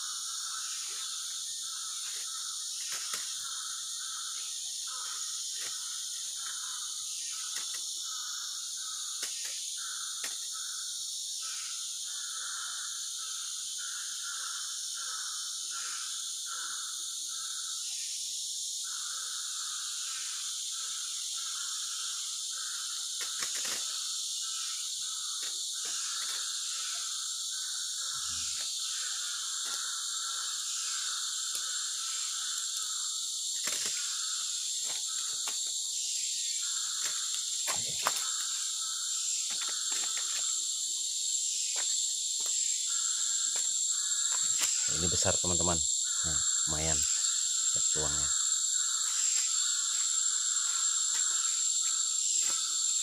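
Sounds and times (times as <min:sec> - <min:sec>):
lower chirring insect trill: 0:00.0 - 0:53.0
shrill insect buzz: 0:00.0 - 0:53.0.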